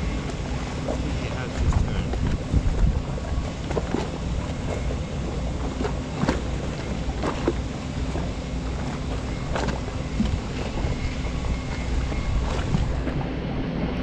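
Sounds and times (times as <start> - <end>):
low engine hum: 0.0 - 14.0
wind buffeting microphone: 0.0 - 14.0.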